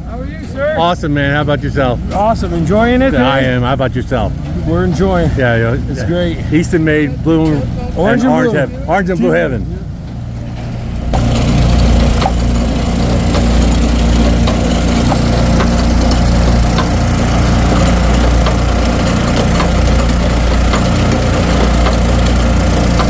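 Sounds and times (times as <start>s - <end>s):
wood splitter engine running: 0.0s - 23.0s.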